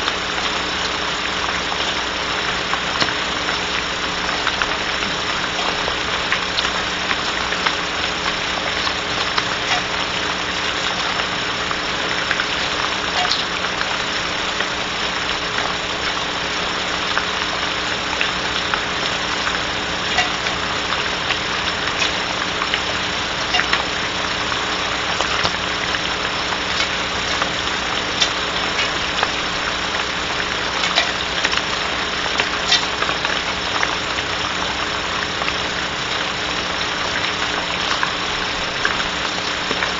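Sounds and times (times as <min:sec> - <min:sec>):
low steady hum: 0:00.0 - 0:39.9
rain on wooden box: 0:00.0 - 0:39.9.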